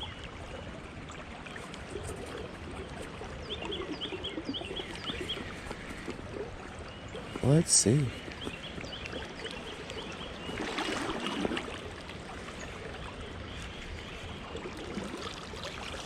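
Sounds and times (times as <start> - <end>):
water trickling and lapping: 0.0 - 16.0
water splashing: 0.9 - 16.0.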